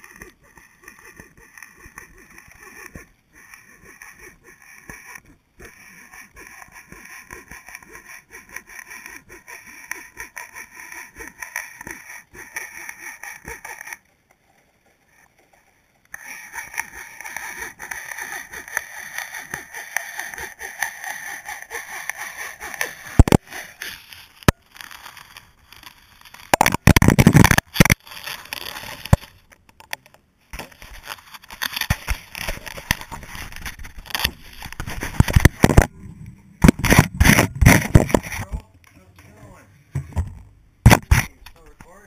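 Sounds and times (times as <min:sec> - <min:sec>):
muffled underwater crackling: 0:00.0 - 0:38.8.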